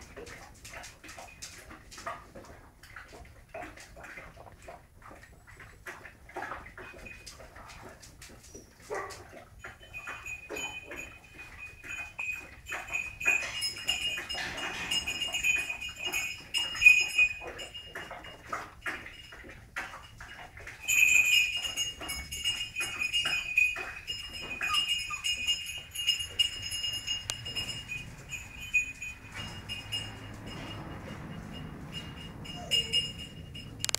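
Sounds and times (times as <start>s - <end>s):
puppies yipping and scuffling: 0.0s - 33.9s.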